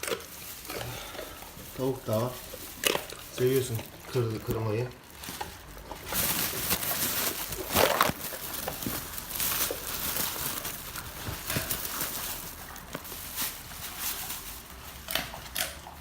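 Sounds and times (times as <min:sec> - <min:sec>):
dog crunching bones: 0:00.0 - 0:16.0.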